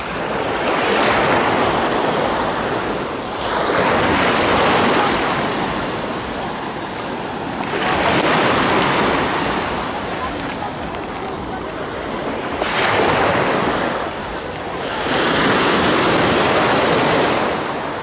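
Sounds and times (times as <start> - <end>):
sea waves breaking on shore: 0.0 - 18.0.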